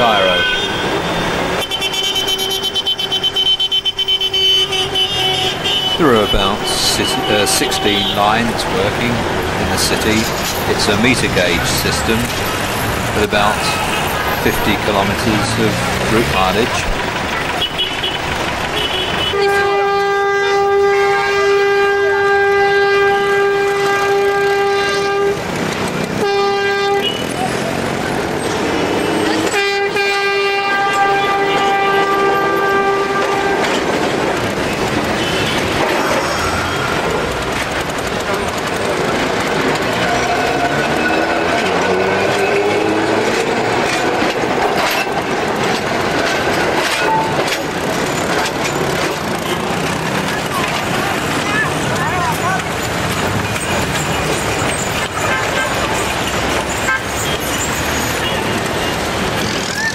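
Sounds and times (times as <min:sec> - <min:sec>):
tram horn: 0:00.0 - 0:57.4
street traffic: 0:00.0 - 0:59.9
wheels clicking on rails: 0:00.0 - 0:59.9.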